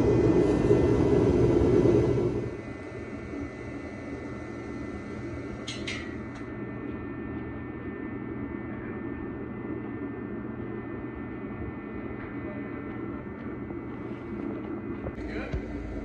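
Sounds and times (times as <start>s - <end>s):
machine drone with high tones: 0.0s - 16.0s.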